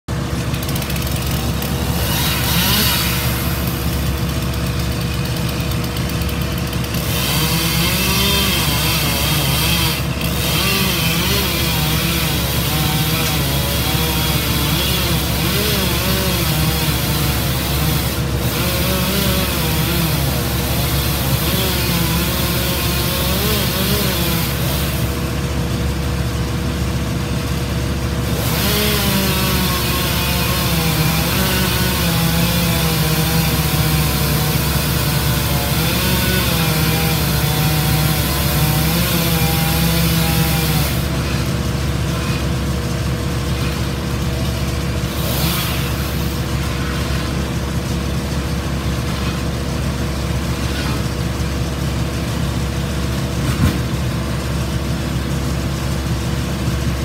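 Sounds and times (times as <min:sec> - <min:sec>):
wood chipper engine drone: 0:00.0 - 0:57.0
chainsaw cutting into tree trunk: 0:00.1 - 0:57.0.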